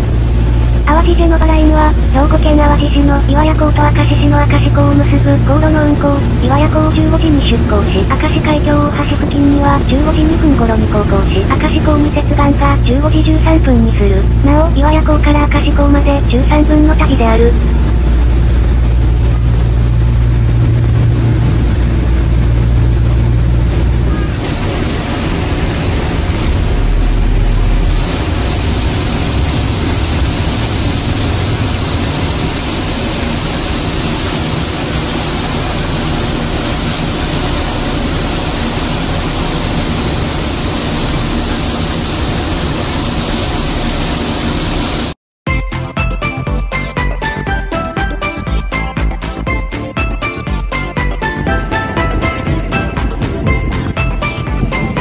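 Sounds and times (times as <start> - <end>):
boat engine drone: 0.0 - 55.0
rushing wind and water: 0.0 - 55.0.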